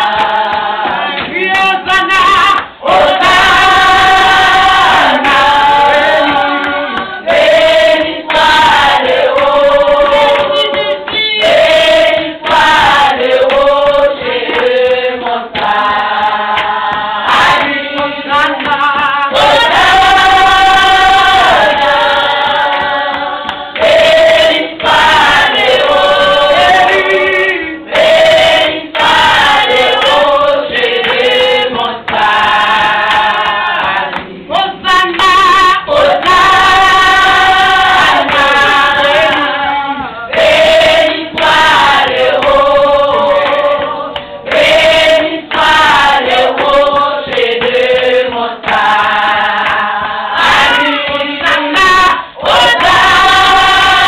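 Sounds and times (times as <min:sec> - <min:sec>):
women singing together: 0:00.0 - 0:54.0.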